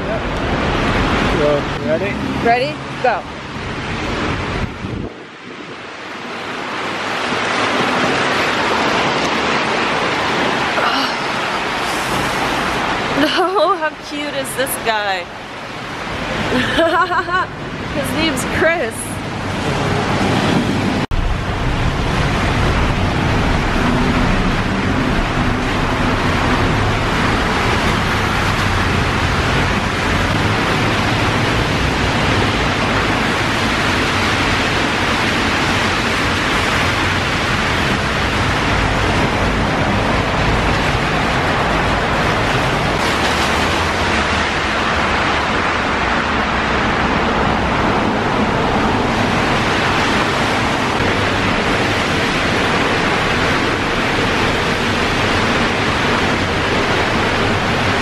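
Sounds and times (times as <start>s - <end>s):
heavy rain rushing: 0.0s - 58.0s.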